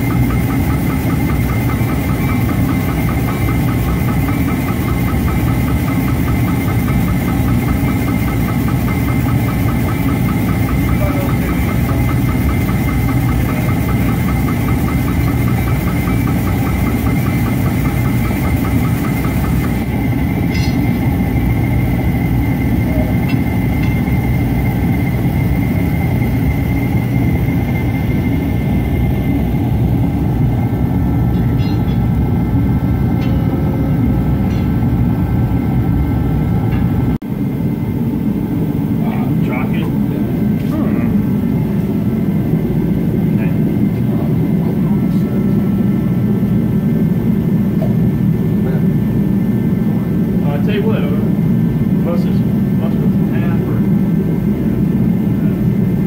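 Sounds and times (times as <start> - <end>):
steady mechanical running: 0.0 - 56.0.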